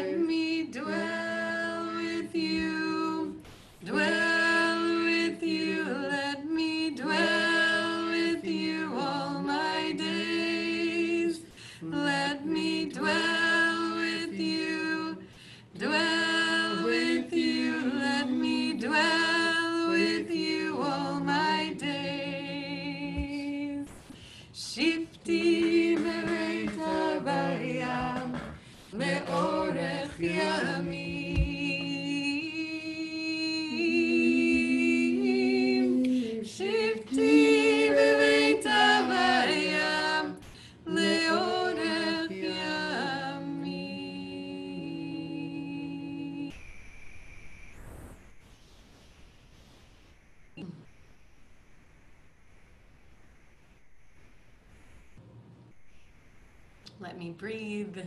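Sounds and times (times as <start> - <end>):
unaccompanied voices singing: 0.0 - 46.6.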